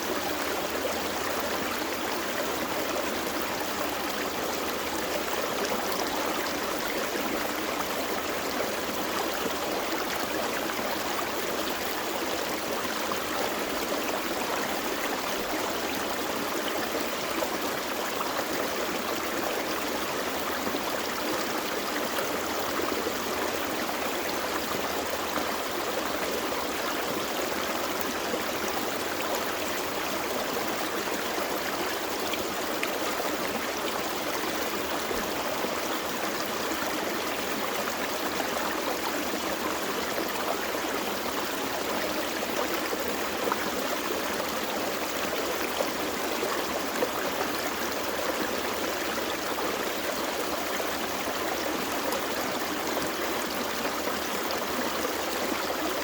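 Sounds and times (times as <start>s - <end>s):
creek water running over rocks: 0.0s - 56.0s.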